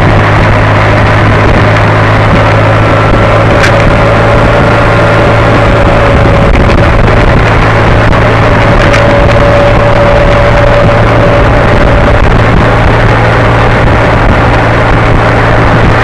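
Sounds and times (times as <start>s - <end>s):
vehicle engine drone: 0.0s - 16.0s
wind rush: 0.0s - 16.0s.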